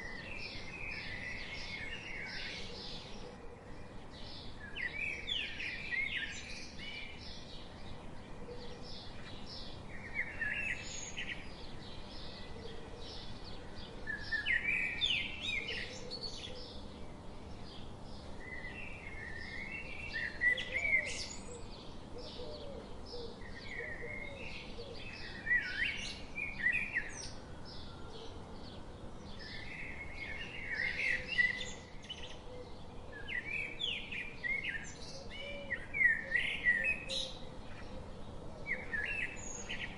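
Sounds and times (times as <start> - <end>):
chorus of chirping birds: 0.0 - 39.9.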